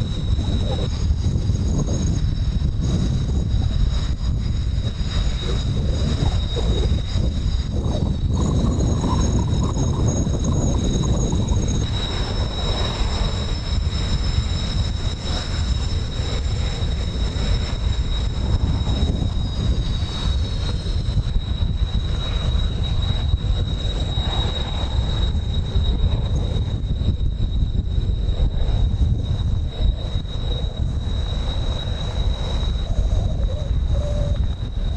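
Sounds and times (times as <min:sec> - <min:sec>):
jet engines whining: 0:00.0 - 0:34.9
wind on microphone: 0:00.0 - 0:34.9.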